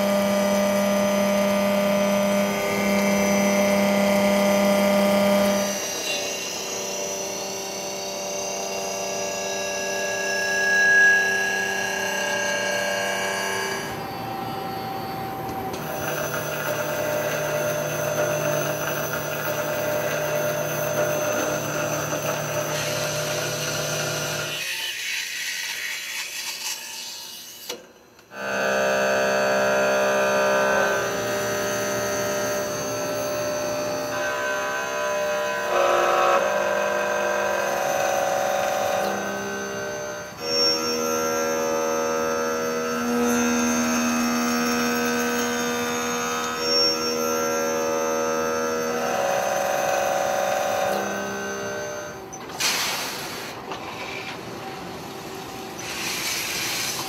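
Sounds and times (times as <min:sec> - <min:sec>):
milling cutter whine: 0:00.0 - 0:26.3, 0:28.4 - 0:57.0.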